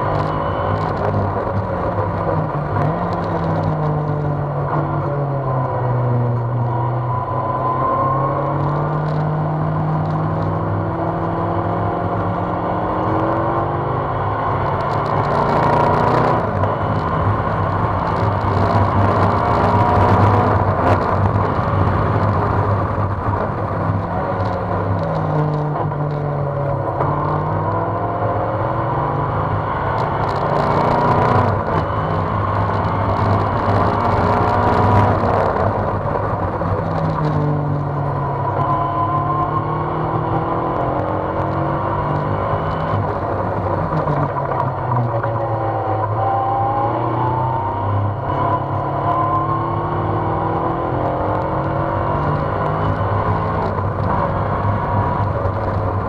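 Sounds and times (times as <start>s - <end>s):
road noise: 0.0s - 56.0s
sports car engine accelerating: 0.0s - 56.0s.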